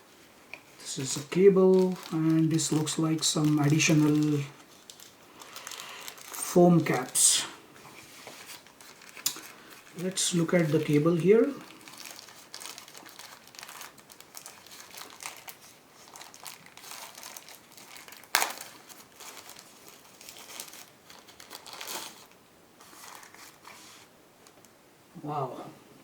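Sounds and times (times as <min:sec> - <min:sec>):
plastic packaging crinkling: 0:00.5 - 0:24.7.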